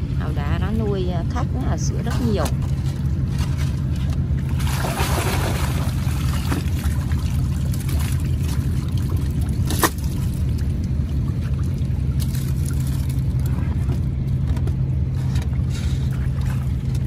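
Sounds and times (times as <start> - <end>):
low motor drone: 0.0 - 17.0
water pouring and trickling: 1.6 - 17.0.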